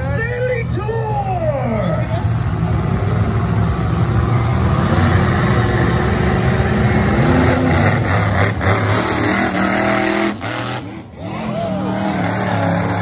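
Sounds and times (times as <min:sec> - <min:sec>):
monster truck engine revving: 0:02.2 - 0:13.0.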